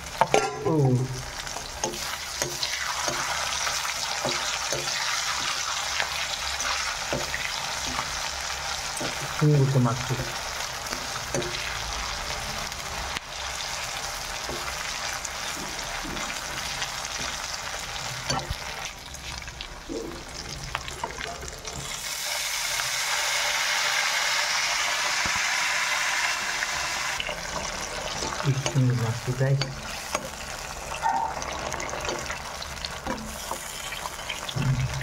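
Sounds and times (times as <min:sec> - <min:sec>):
meat sizzling in hot oil: 0:00.0 - 0:35.0.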